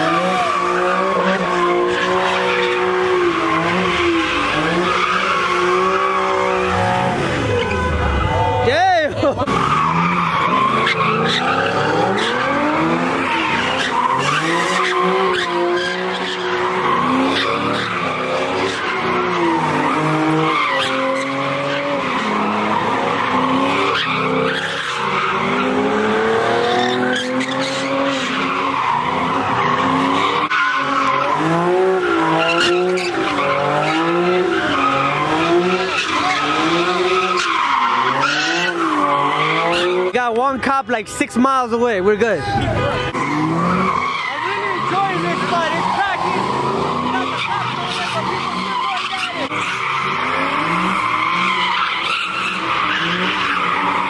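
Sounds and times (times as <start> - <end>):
tyres squealing: 0.0 - 40.2, 42.4 - 54.0
car engine revving: 0.0 - 54.0.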